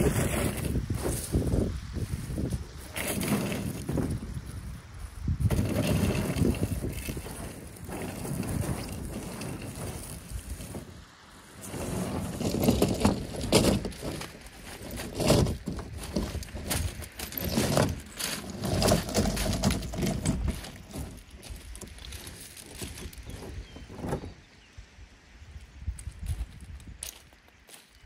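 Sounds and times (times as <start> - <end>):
pebbles crunching underfoot: 0.0 - 24.4, 25.7 - 28.0
kayak dragged over stones: 0.0 - 24.6.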